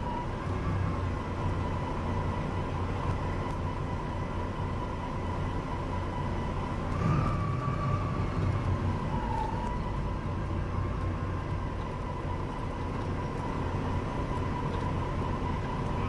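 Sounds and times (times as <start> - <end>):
coach engine and road rumble: 0.0 - 16.0.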